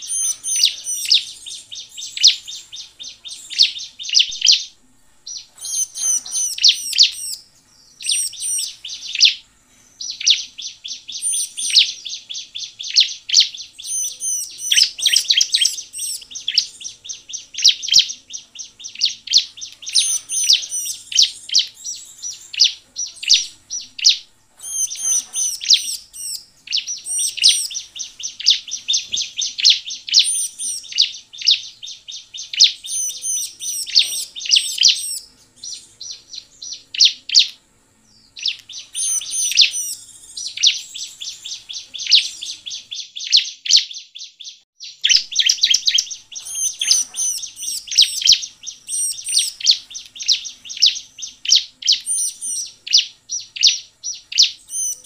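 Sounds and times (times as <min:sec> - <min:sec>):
bird singing high chattering phrases: 0:00.0 - 0:55.0.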